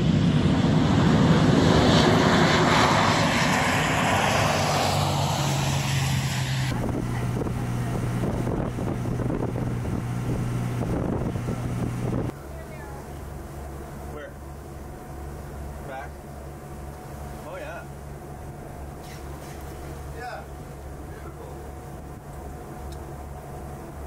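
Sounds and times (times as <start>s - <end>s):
propeller plane engine drone: 0.0s - 24.0s
steady low hum: 0.0s - 24.0s.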